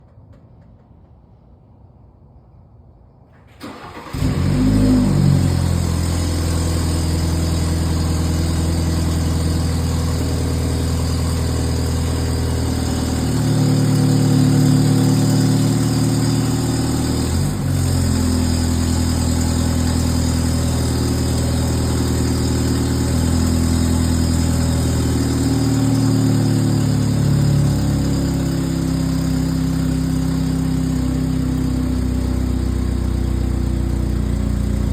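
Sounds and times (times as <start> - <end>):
car engine starting and idling: 3.3 - 34.9.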